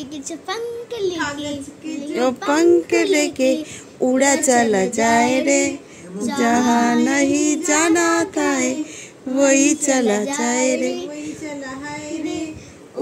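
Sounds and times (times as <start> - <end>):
girl singing unaccompanied: 0.8 - 13.0.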